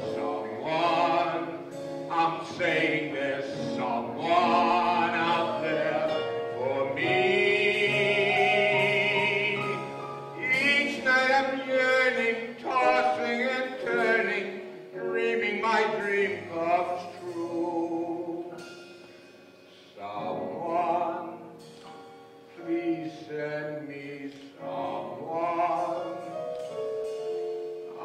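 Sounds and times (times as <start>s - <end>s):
man singing: 0.0s - 18.6s, 19.9s - 21.6s, 22.5s - 26.8s.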